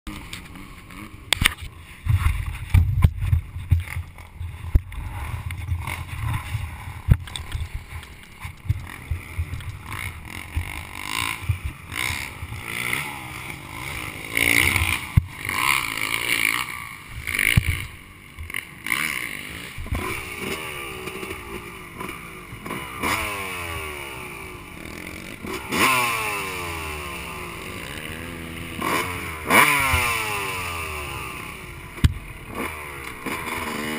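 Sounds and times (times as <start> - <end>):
motocross bike engine revving: 0.1 - 33.9.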